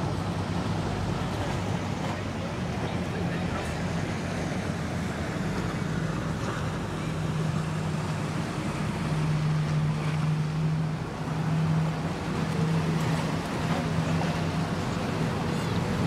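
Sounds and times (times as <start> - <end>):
boat engines humming: 0.0 - 16.0
water washing: 0.0 - 16.0.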